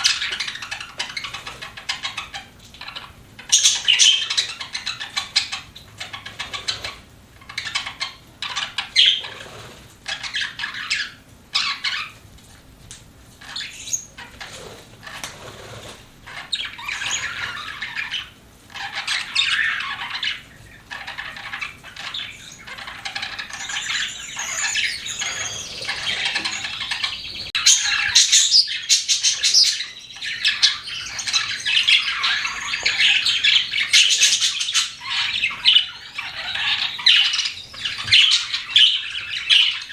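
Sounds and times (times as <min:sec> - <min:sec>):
budgerigars chattering: 0:00.0 - 0:12.2, 0:13.4 - 0:39.9.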